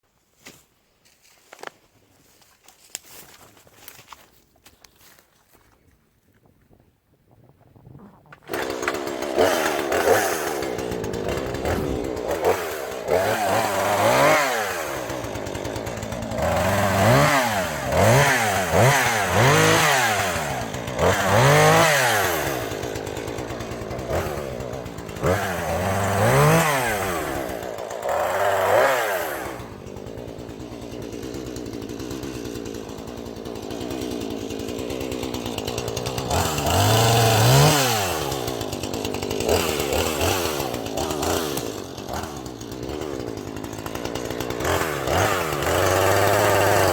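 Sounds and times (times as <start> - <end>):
chainsaw revving: 8.3 - 46.9.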